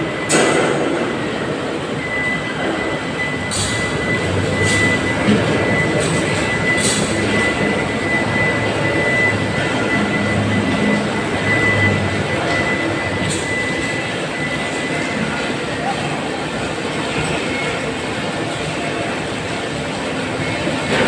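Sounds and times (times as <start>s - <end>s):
machinery roar: 0.0s - 21.0s.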